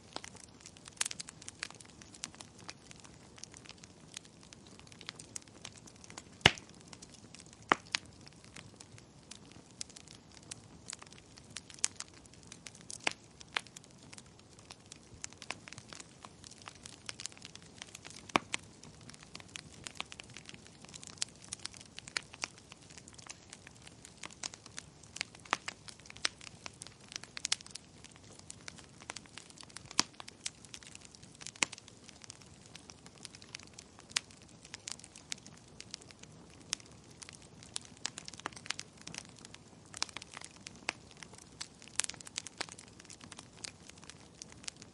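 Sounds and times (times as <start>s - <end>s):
soft hiss of flames: 0.0s - 44.9s
wood fire crackling and popping: 0.0s - 44.9s.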